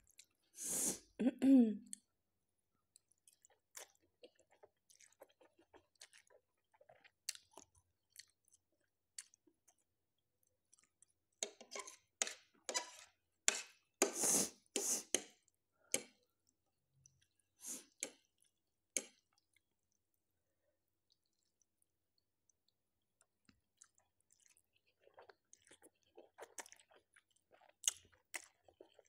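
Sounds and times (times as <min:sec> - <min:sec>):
chewing noodles: 0:00.0 - 0:00.6, 0:02.8 - 0:19.7, 0:21.1 - 0:21.7, 0:22.6 - 0:29.0.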